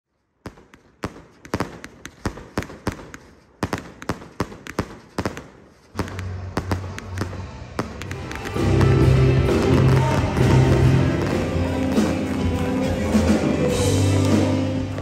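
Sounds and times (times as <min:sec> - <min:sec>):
fireworks bangs and cracks: 0:00.3 - 0:15.0.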